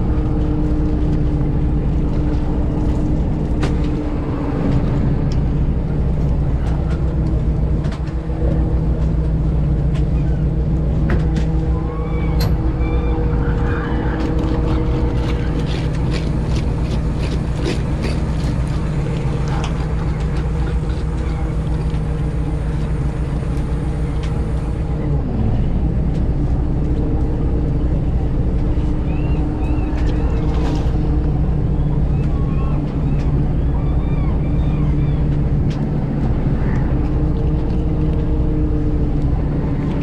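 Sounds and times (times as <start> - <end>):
boat engine humming: 0.0 - 40.0.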